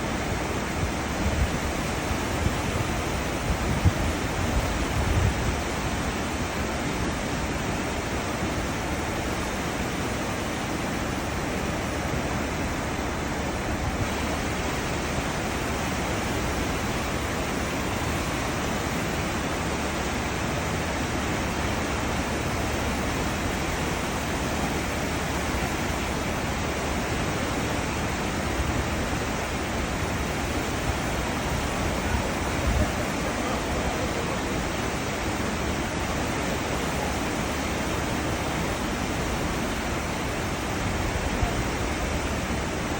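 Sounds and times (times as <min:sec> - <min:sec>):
ship low rumble: 0:00.0 - 0:42.9
ship wake churning water: 0:00.0 - 0:42.9.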